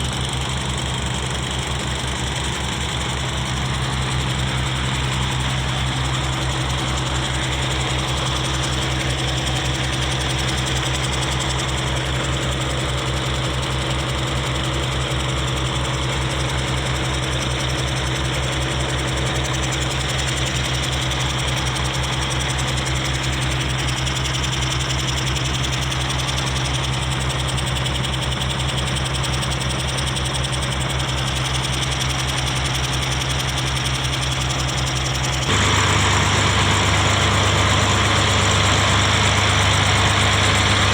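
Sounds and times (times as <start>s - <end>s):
diesel pump engine running: 0.0s - 40.9s.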